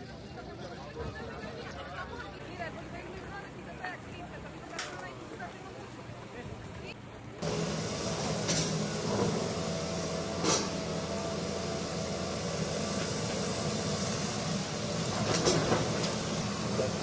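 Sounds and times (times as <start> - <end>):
engine humming: 1.4 - 17.0.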